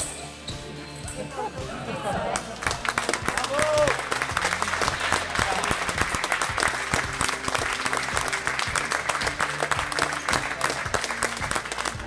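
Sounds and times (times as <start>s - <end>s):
faint music: 0.0s - 12.0s
spectators clapping: 2.2s - 12.0s.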